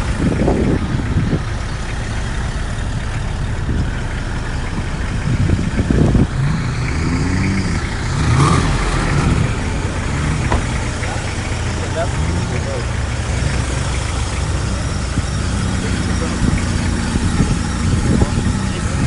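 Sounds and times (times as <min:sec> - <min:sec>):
engine idling low rumble: 0:00.0 - 0:19.0.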